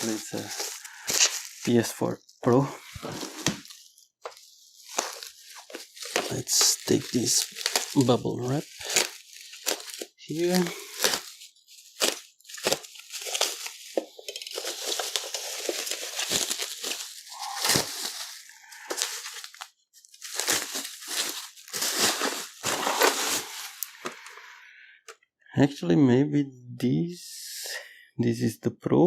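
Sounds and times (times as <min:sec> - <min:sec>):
bubble wrap crinkling: 0:00.0 - 0:24.4.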